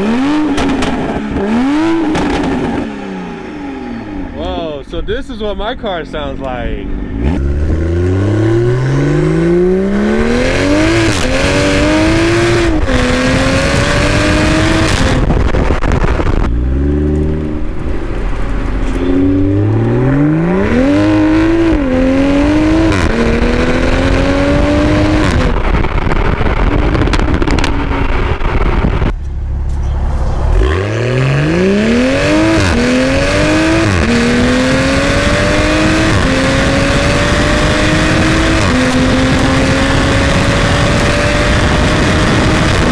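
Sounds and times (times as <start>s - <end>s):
car exhaust accelerating hard: 0.0s - 42.9s.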